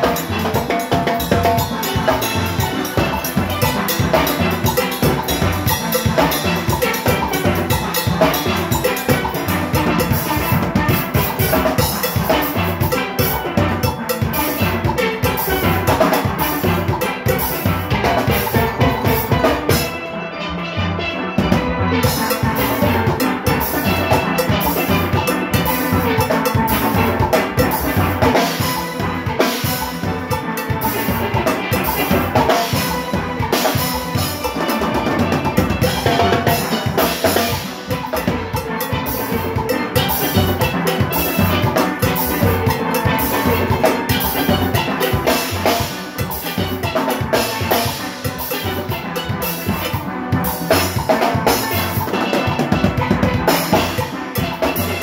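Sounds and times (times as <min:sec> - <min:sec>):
drums and congas beat: 0:00.0 - 0:55.0
steelpans playing melody: 0:00.0 - 0:55.0.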